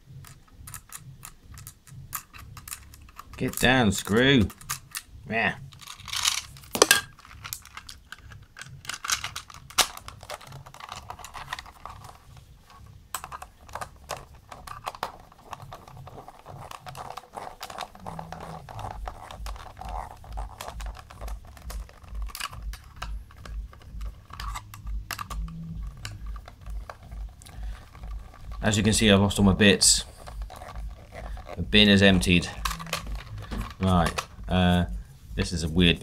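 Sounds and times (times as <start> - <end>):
plastic parts clicking and scraping: 0.0 - 36.0.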